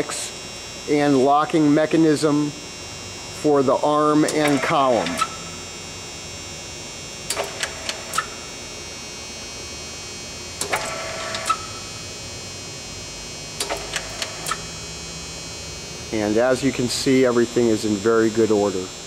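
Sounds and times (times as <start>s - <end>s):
electrical hum with high whine: 0.0s - 19.0s.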